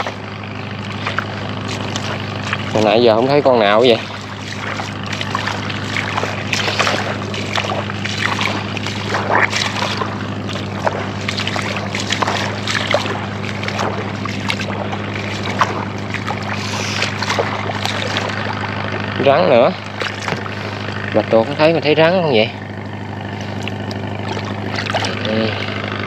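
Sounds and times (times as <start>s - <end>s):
footsteps on wet sand: 0.0s - 20.9s
steady low hum: 0.0s - 26.0s.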